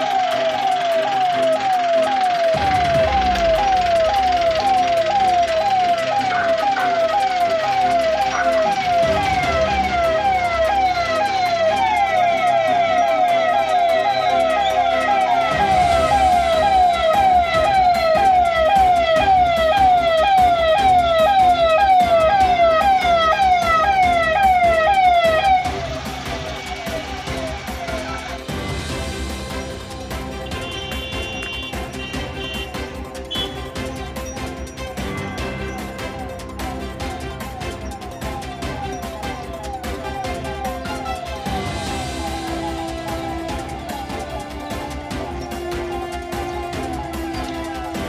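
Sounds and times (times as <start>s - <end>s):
electronic police siren: 0.0s - 48.0s.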